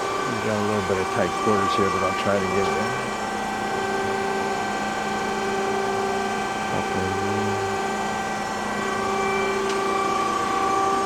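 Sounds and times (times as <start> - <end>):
hydraulic pump humming: 0.0 - 11.0.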